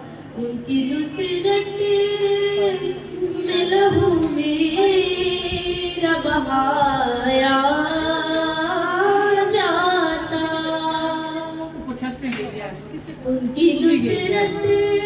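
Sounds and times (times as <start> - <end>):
woman singing into microphone: 0.0 - 11.9, 13.1 - 15.0.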